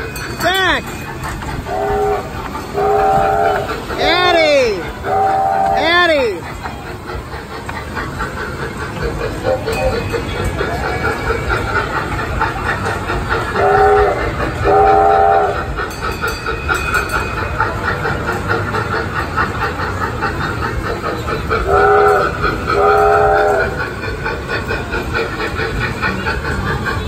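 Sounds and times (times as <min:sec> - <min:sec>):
running ride noise: 0:00.0 - 0:27.0.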